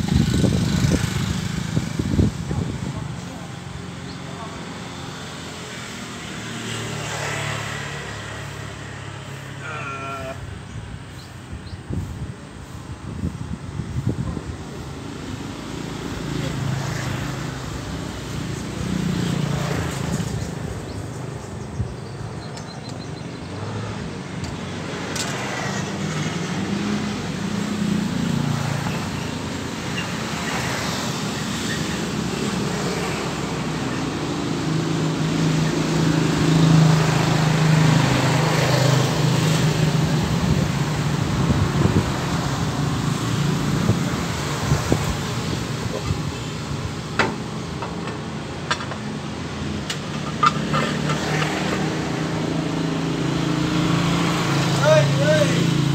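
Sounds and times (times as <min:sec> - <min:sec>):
passing motorcycles and traffic: 0:00.0 - 0:55.9.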